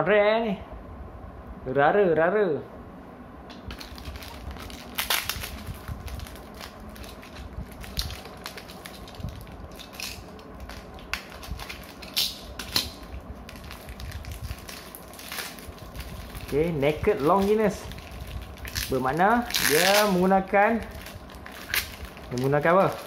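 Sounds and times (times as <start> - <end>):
plastic packaging crinkling: 3.6 - 23.0.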